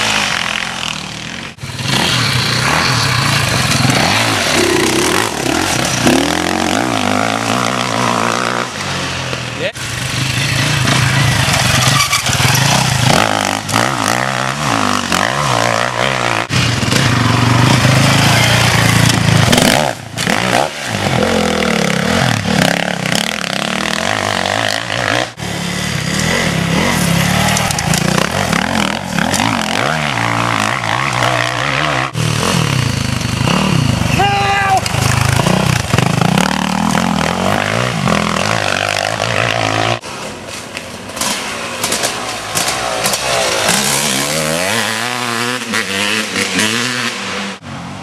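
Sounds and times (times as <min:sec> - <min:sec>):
dirt bike engines revving: 0:00.0 - 0:48.0.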